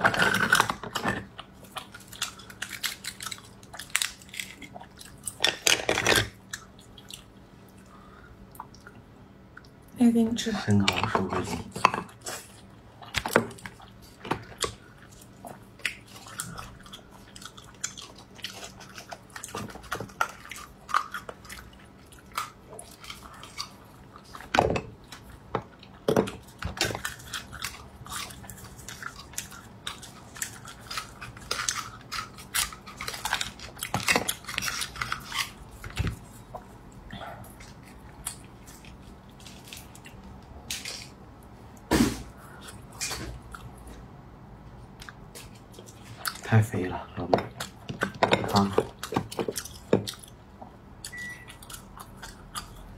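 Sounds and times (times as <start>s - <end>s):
person chewing: 0.1s - 5.4s, 6.3s - 9.8s, 12.0s - 44.1s, 44.9s - 46.5s, 47.5s - 52.9s.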